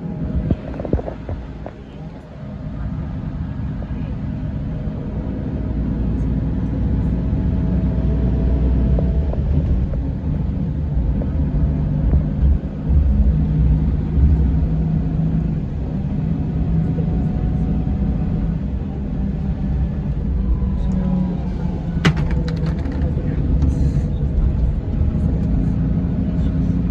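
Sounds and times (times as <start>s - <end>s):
diesel engine low rumble: 0.0s - 26.9s
faint engine whine: 0.0s - 26.9s.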